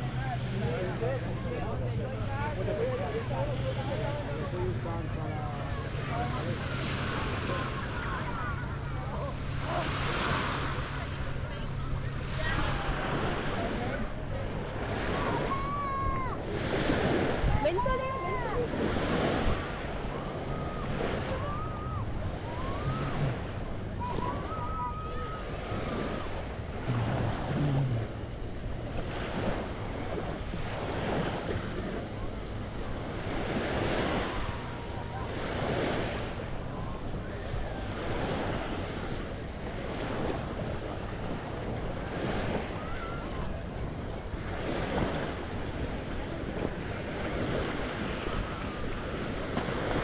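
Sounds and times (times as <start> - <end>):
faint distant voices: 0.0 - 50.0
small waves washing onto sand: 0.0 - 50.0.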